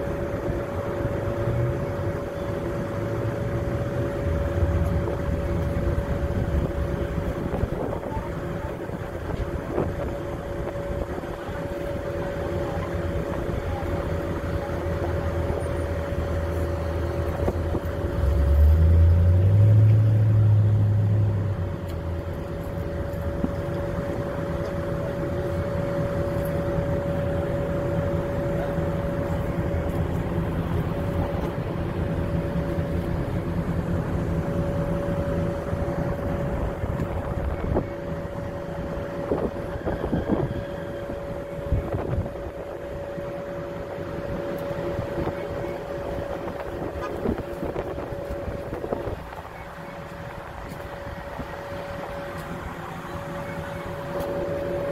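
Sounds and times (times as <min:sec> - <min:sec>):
bus engine idling: 0:00.0 - 0:54.9.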